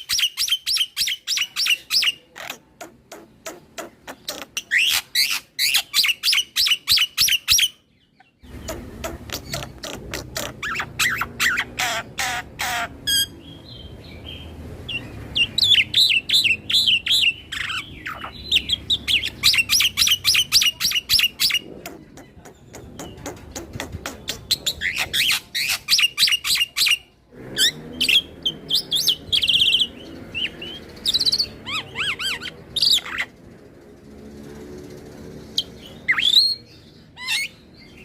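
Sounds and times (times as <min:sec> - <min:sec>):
starling chirping: 0:00.0 - 0:38.0.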